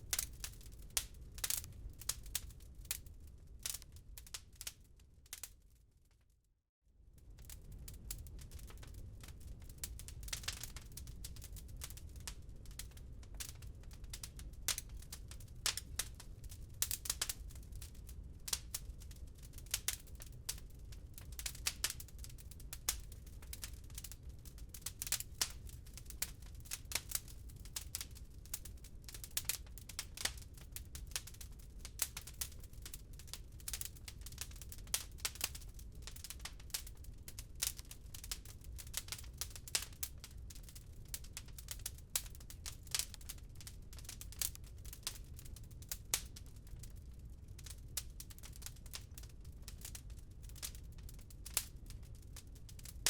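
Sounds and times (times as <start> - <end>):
wood fire crackling and popping: 0.0 - 5.8, 7.2 - 53.0.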